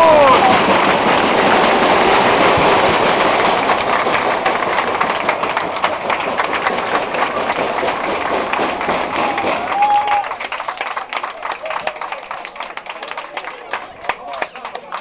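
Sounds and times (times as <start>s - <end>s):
crowd cheering: 0.0s - 15.0s
crowd clapping: 0.0s - 15.0s.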